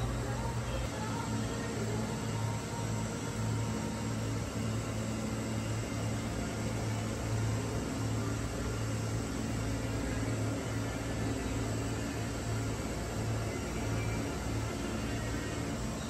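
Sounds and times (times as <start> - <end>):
low machinery hum with hiss: 0.0 - 16.0.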